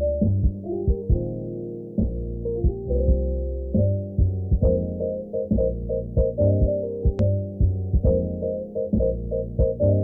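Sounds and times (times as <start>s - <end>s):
muffled music with steady beat: 2.0s - 10.0s.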